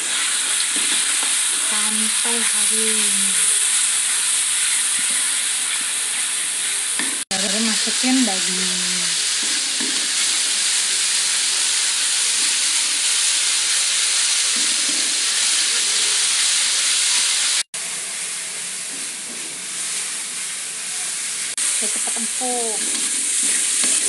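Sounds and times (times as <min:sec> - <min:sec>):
paste sizzling in hot oil: 0:00.0 - 0:24.0.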